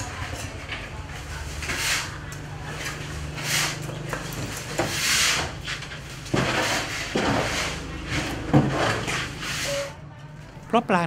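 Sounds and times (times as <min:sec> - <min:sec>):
scraping and rubbing: 0:00.4 - 0:10.0.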